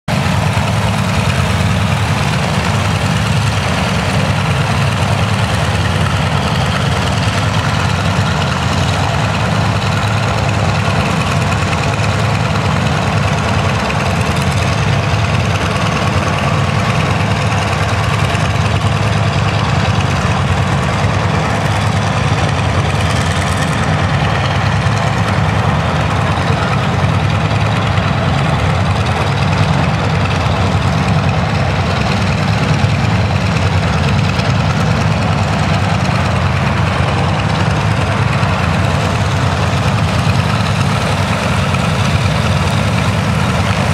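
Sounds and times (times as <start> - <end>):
radial aircraft engines droning: 0.1 - 43.9.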